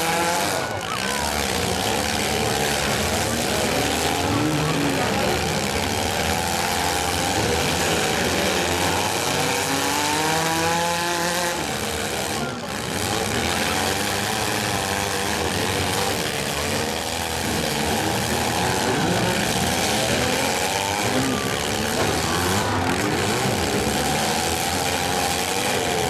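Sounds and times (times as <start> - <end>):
car engines revving together: 0.0 - 26.0.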